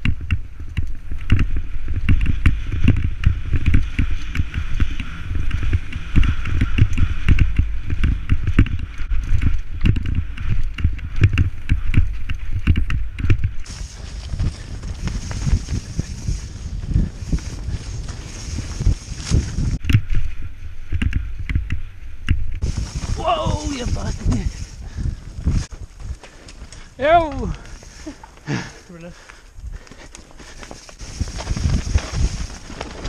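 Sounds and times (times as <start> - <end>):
bike rattling and knocking: 0.0 - 28.6, 29.8 - 33.0
wind buffeting microphone: 0.0 - 28.7, 29.5 - 33.0.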